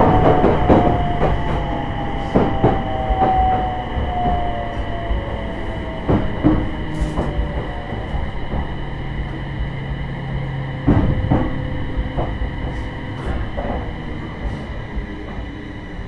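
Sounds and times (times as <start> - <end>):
train rumble: 0.0 - 16.0
train traction motors whining: 0.0 - 16.0
wheels clacking over rail joints: 0.0 - 16.0.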